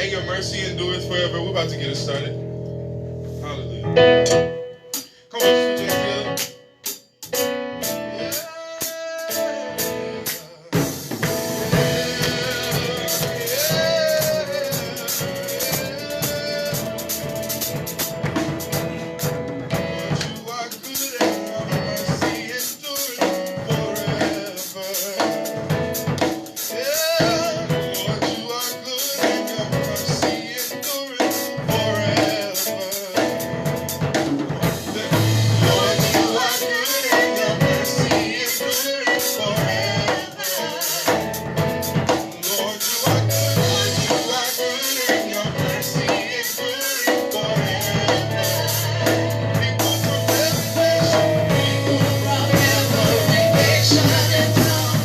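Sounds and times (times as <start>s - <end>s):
gospel music with drum kit: 0.0s - 55.0s.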